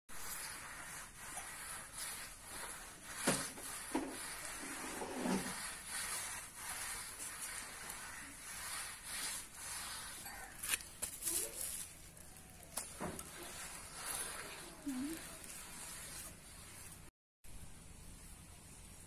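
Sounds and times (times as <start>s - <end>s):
hand smearing mud on floor: 0.1s - 17.1s.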